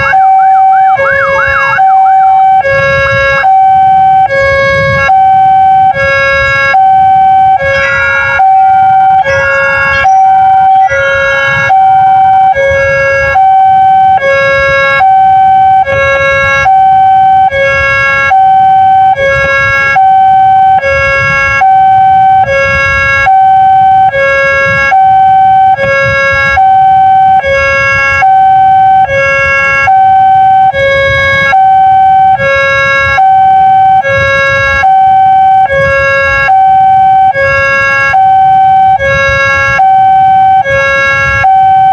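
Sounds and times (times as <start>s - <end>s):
two-tone crossing alarm: 0.0s - 41.9s.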